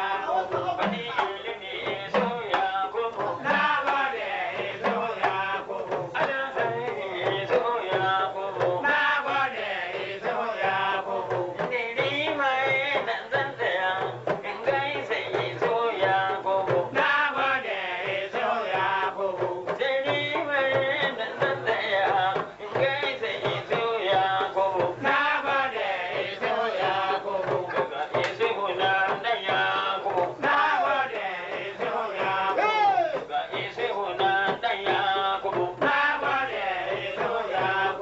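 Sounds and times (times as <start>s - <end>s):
man singing into a microphone: 0.0s - 38.0s
talking drums beat: 0.0s - 38.0s.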